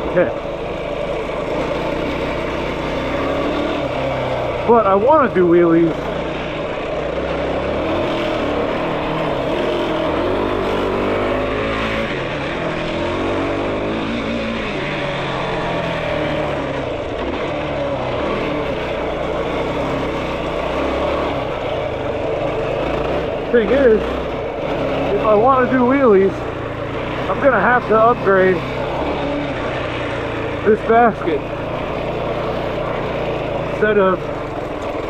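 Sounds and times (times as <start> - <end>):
quad engine revving: 0.0 - 35.0.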